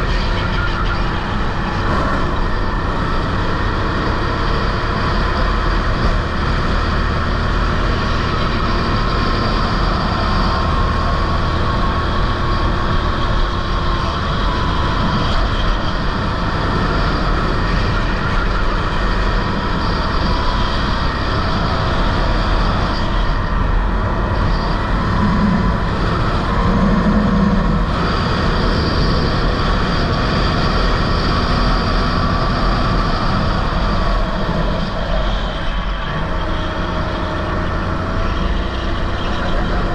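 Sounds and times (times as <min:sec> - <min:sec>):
go-kart engine at racing speed: 0:00.0 - 0:39.9
track noise: 0:00.0 - 0:39.9
wind: 0:00.0 - 0:39.9.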